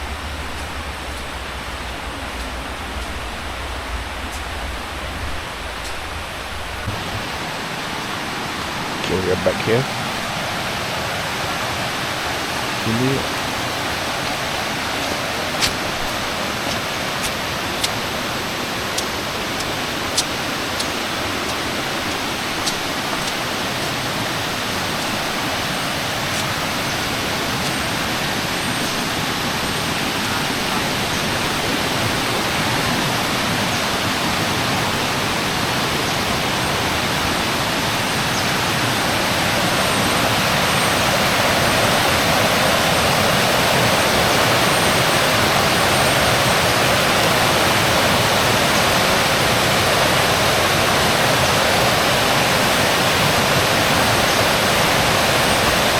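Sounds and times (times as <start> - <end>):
river rushing over cascades: 0.0 - 55.9.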